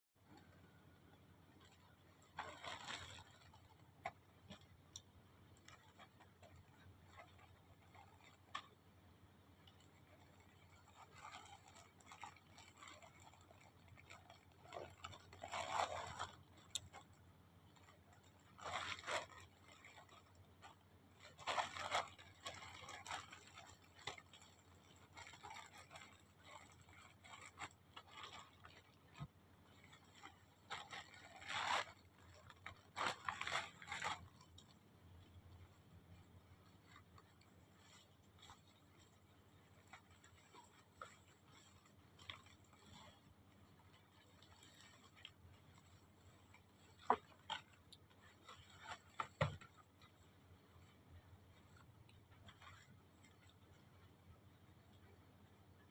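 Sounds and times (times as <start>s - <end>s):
packaging crinkling and scraping: 0.2s - 55.9s.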